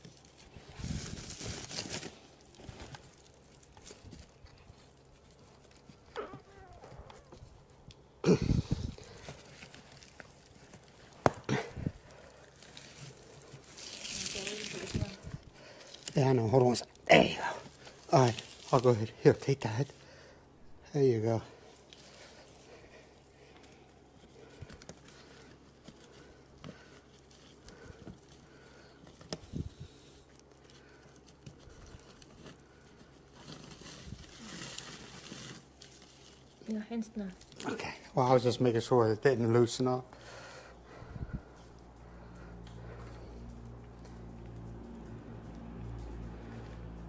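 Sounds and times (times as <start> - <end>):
plastic twine rustling: 0.0 - 47.0.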